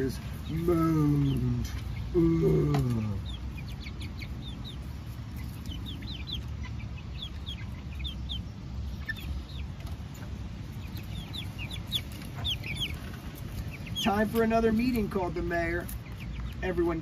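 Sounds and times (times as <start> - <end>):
young chickens peeping: 0.0 - 17.0.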